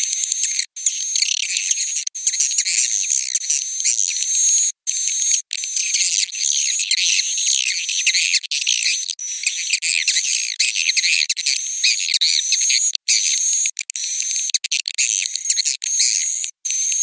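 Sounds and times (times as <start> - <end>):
swiftlets twittering and chirping: 0.0 - 17.0.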